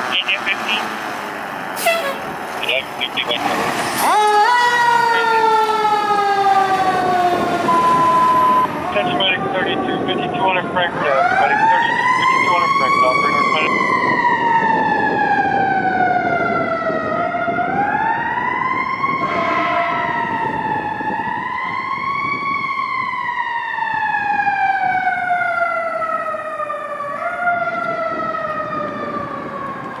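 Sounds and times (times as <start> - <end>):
fire engine siren wailing: 0.0 - 30.0
truck engine and road noise: 0.0 - 30.0.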